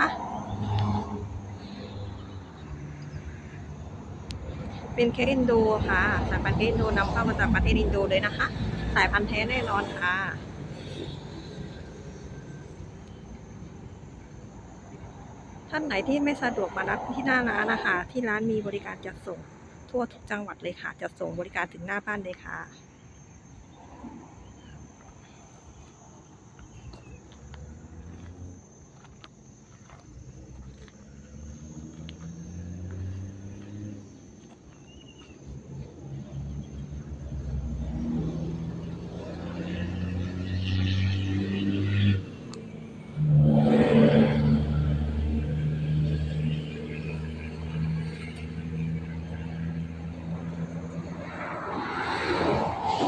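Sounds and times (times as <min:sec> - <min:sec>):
motor vehicle engines passing: 0:00.0 - 0:53.0.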